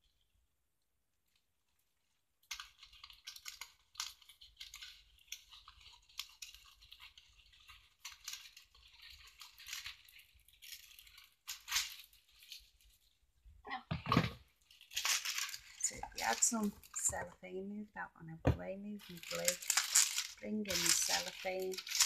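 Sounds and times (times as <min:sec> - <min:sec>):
cellophane crinkling: 0:01.3 - 0:13.2, 0:14.6 - 0:22.0.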